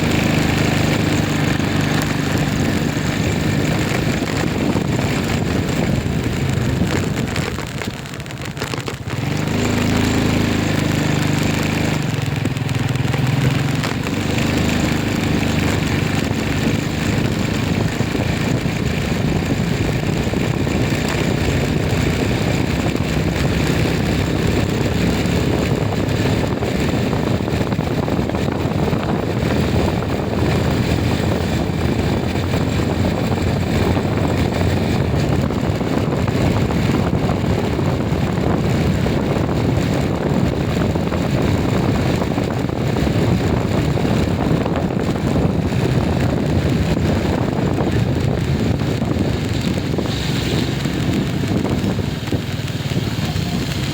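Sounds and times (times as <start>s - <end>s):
motor vehicle running: 0.0s - 53.9s
road noise: 0.0s - 53.9s
wind: 0.0s - 53.9s.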